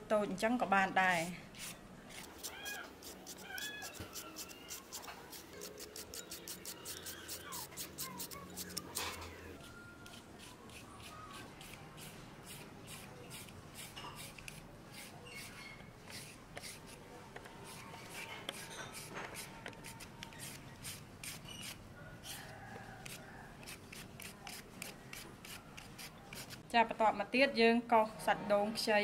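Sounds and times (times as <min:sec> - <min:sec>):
peeler rasping pumpkin: 0:01.6 - 0:17.0, 0:17.6 - 0:22.4, 0:23.0 - 0:26.6.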